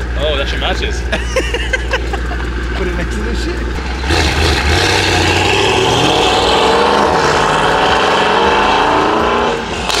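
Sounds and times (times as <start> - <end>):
car accelerating away: 1.8 - 10.0.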